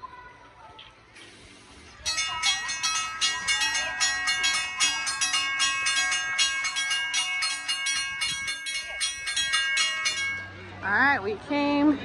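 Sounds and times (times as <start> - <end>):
railroad crossing bell ringing: 2.0 - 11.8.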